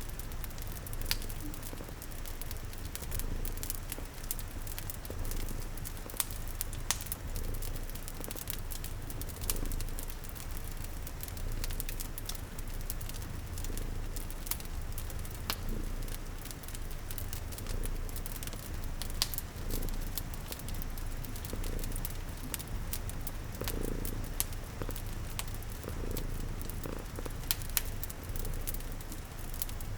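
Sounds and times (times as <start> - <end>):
cat purring: 0.0 - 29.9
soft rain patter: 0.0 - 29.9
wood fire crackling and popping: 0.0 - 29.9.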